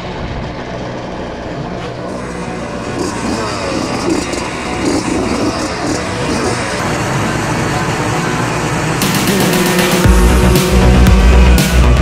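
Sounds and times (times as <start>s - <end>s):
moped engines revving: 0.0s - 12.0s.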